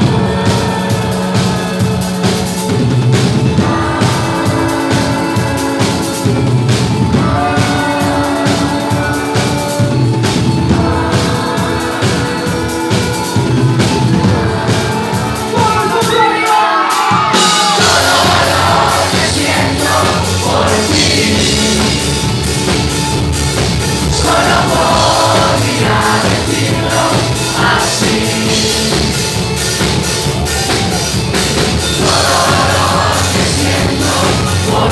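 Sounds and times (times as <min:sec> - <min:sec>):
crowd noise: 0:00.0 - 0:34.9
live band playing: 0:00.0 - 0:34.9
person singing: 0:03.6 - 0:22.9, 0:24.0 - 0:34.9.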